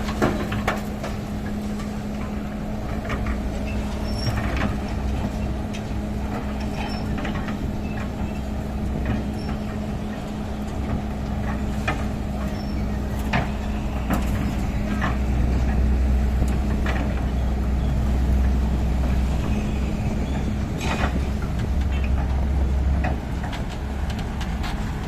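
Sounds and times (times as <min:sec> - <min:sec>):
diesel machinery running: 0:00.0 - 0:25.0.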